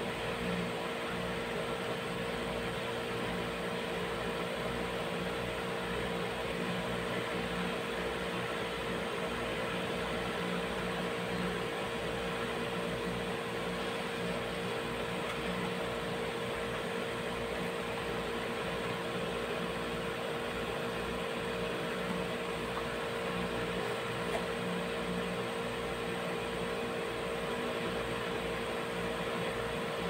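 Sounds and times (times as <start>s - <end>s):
machine hum and hiss: 0.0s - 30.0s.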